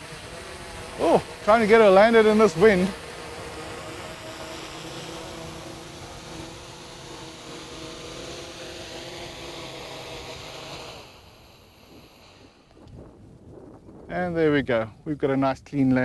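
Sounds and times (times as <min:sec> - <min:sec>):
drone motors humming: 0:00.0 - 0:14.1.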